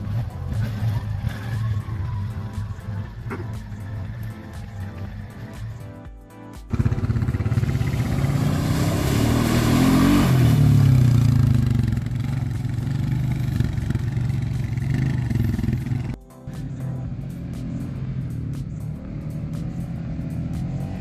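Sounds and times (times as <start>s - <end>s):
off-road vehicle engine running: 0.0s - 6.0s, 6.7s - 21.0s.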